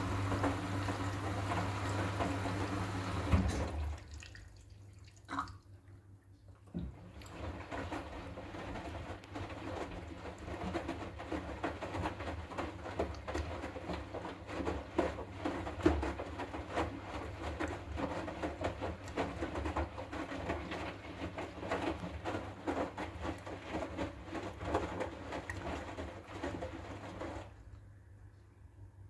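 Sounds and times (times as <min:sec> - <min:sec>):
washing machine drum sloshing: 0:00.0 - 0:27.8.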